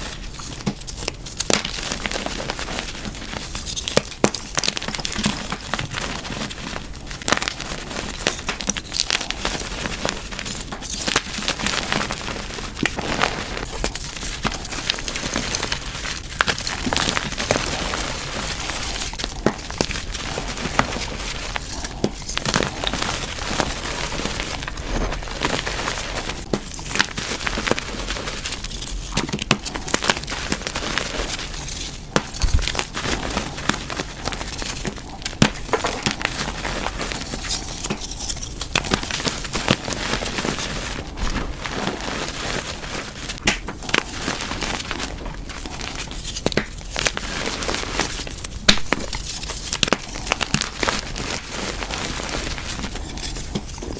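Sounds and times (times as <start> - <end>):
chalk blocks crunching by hand: 0.0 - 53.9.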